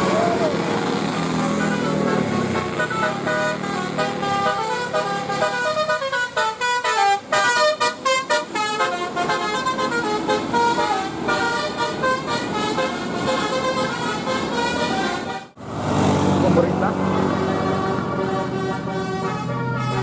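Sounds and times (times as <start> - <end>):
multi-tone bus air horn melody: 0.0 - 15.6, 17.3 - 20.0.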